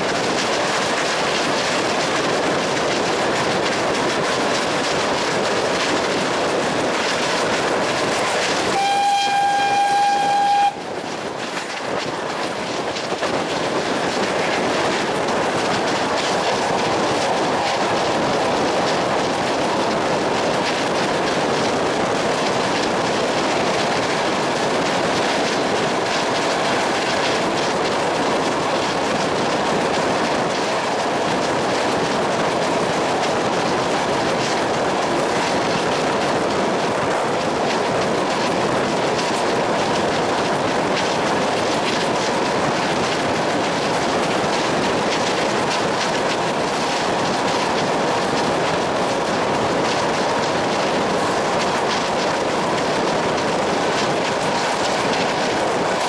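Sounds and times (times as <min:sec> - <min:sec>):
faint clicks over rails: 0:00.0 - 0:56.0
train wheels running on track: 0:00.0 - 0:56.0.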